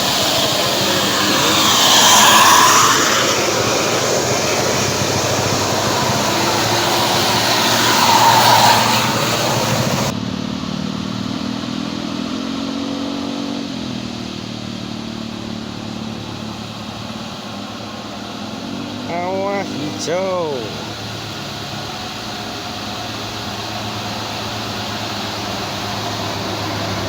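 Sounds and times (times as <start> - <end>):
bus engine pulling hard: 0.0 - 27.0
road noise: 0.0 - 27.0.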